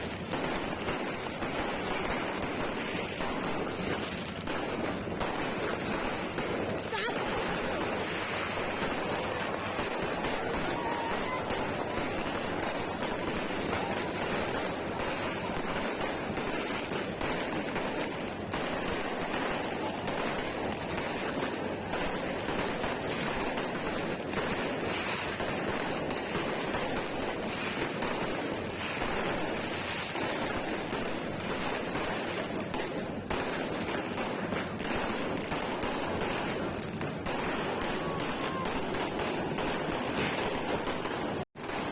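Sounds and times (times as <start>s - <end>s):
fireworks banging and crackling: 0.0s - 41.9s.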